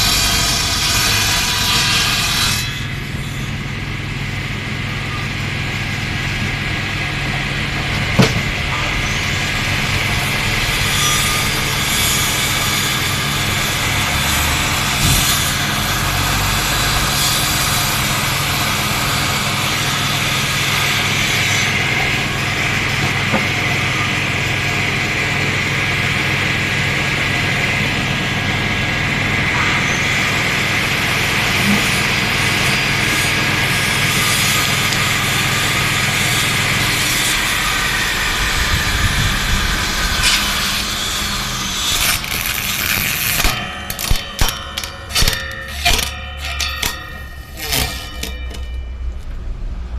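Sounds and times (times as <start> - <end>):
woodworking machine humming: 0.0 - 49.9.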